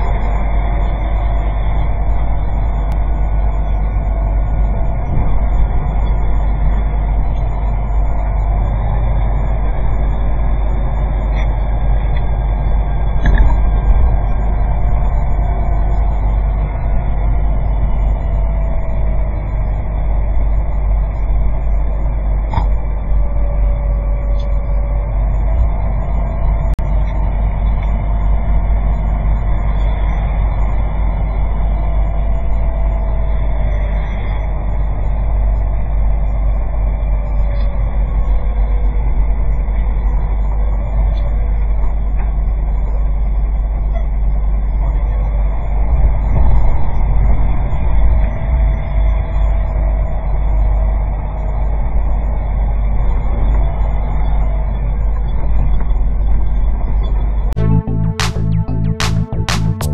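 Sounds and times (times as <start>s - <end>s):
faint whine: 0.0s - 59.9s
vehicle rumbling: 0.0s - 59.9s.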